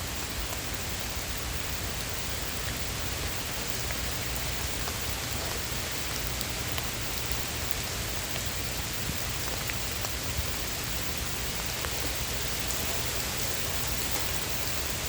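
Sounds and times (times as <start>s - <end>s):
heavy rain pouring: 0.0s - 15.0s
raindrop ticks: 0.1s - 15.0s.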